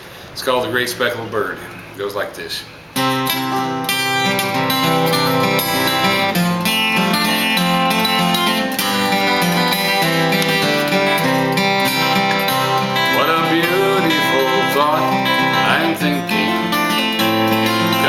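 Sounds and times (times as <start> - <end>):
acoustic guitar strumming chords: 2.8 - 18.0.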